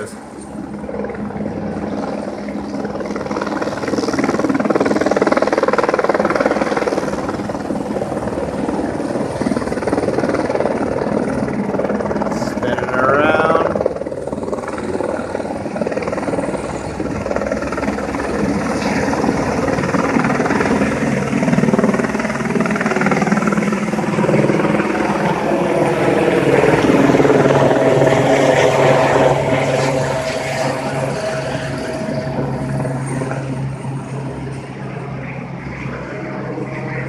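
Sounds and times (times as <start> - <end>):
helicopter rotor and turbine: 0.0 - 37.0.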